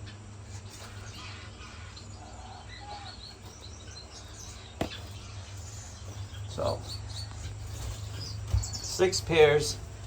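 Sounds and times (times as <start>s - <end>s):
finches chirping: 0.0s - 10.0s
steady low hum: 0.0s - 10.0s.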